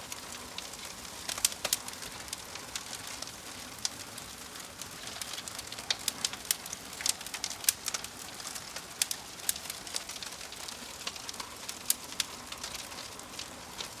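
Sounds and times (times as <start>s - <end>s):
logs crackling in fireplace: 0.0s - 14.0s.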